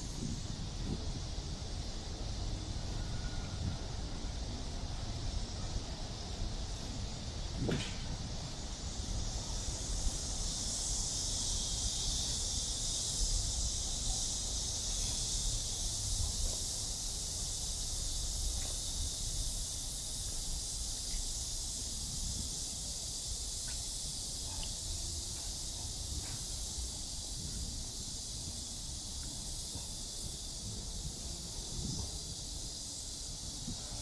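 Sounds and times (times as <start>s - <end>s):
cicadas droning: 0.0s - 34.0s.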